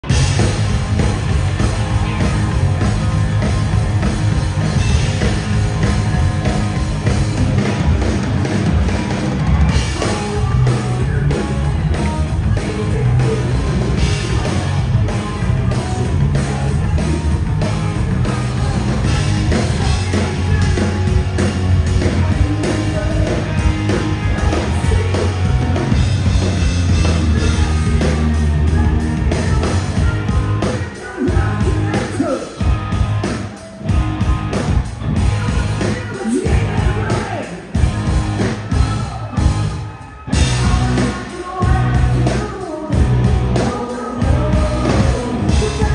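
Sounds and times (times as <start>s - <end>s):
drum kit: 0.0s - 45.9s
hard rock band playing: 0.0s - 45.9s.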